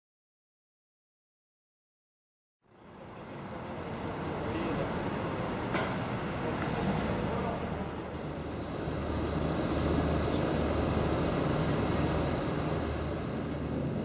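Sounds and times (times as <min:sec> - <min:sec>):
electric train humming: 0:02.6 - 0:14.0
street ambience: 0:02.6 - 0:14.0.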